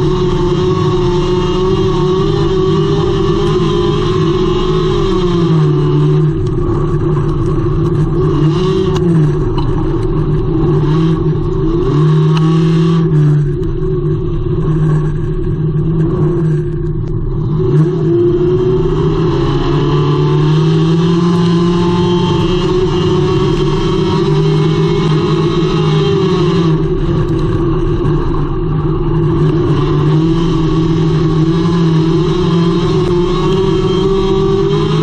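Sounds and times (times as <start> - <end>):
race car engine under load: 0.0 - 35.0.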